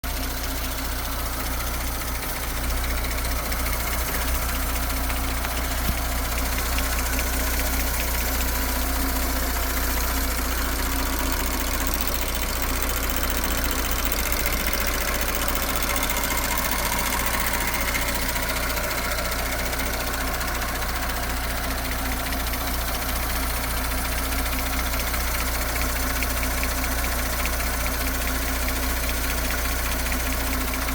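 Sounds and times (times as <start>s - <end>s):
car engine idling: 0.0s - 30.9s
engine ticking: 0.0s - 30.9s
fuel pump ticking: 0.1s - 30.9s.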